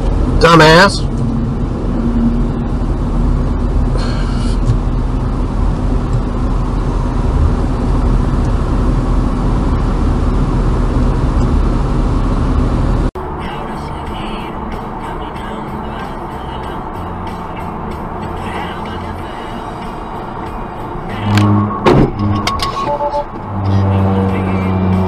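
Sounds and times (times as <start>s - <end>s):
road and engine rumble in car: 0.0s - 25.0s.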